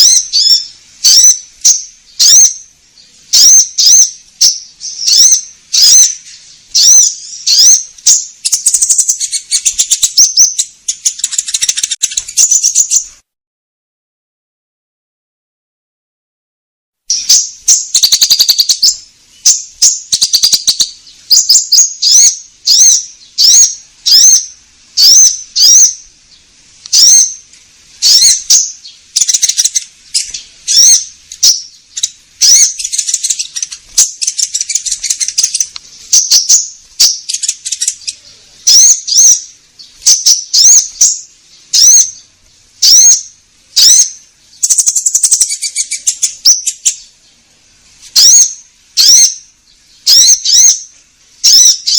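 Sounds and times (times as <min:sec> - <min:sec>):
bird chirping: 0:00.0 - 0:13.3, 0:17.1 - 0:51.9.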